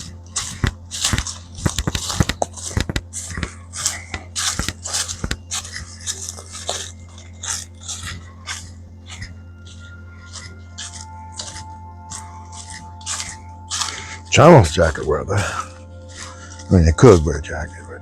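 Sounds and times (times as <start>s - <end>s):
footsteps crunching dry leaves: 0.0s - 18.0s.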